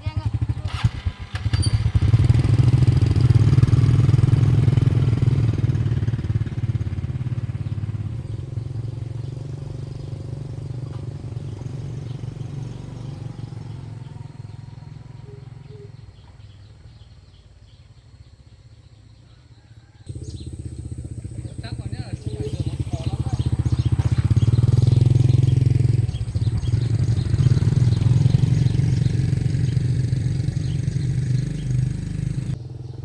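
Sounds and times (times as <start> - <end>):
motorbike engine running: 0.0 - 18.6, 20.1 - 33.0.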